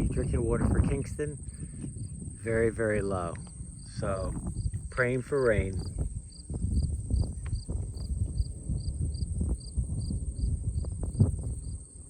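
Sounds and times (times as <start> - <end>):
insects buzzing and chirping: 0.0 - 12.0
low rumble: 0.0 - 12.0.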